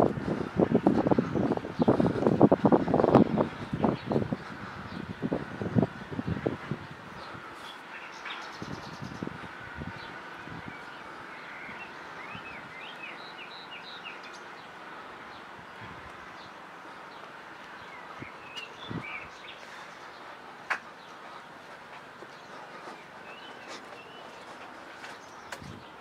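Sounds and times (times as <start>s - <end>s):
outdoor background hum: 0.0s - 26.0s
songbirds chirping and trilling: 0.0s - 26.0s.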